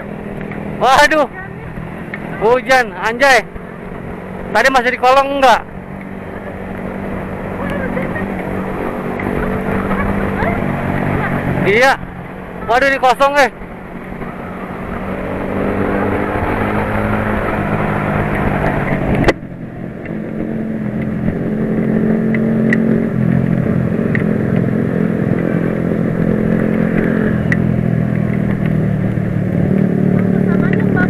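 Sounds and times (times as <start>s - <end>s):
motorcycle engine running: 0.0s - 31.0s
rushing noise of travel: 0.0s - 31.0s.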